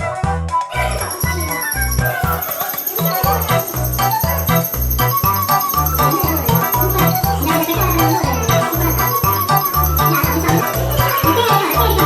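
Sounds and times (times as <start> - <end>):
music with bass line and jingly tune: 0.7 - 12.0.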